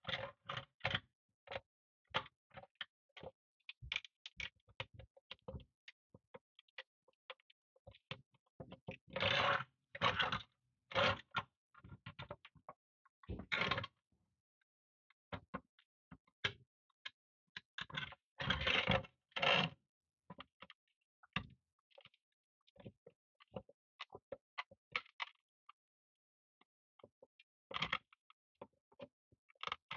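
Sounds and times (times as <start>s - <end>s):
small clicks and taps: 0.1s - 9.3s, 10.0s - 14.0s, 14.6s - 19.7s, 20.3s - 25.9s, 26.6s - 29.9s.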